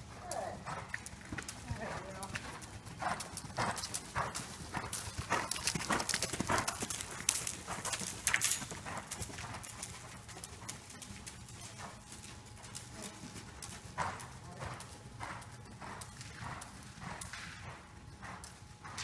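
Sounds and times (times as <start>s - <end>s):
hoofbeats on soft sand: 0.2s - 19.0s.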